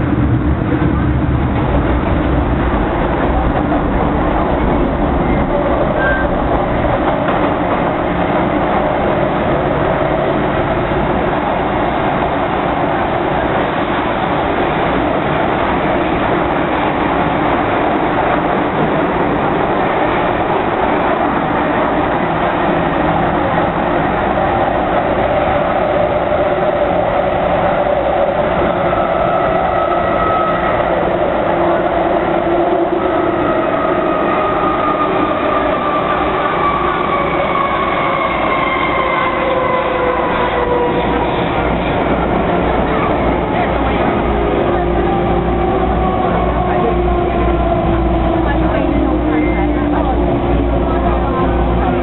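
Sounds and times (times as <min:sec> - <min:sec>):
train rumbling on rails: 0:00.0 - 0:52.0.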